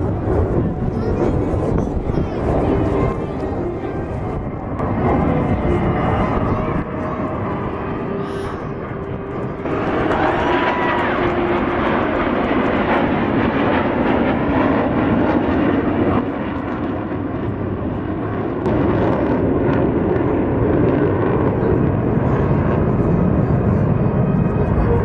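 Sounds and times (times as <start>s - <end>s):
jet aircraft engine roar: 0.0s - 25.0s.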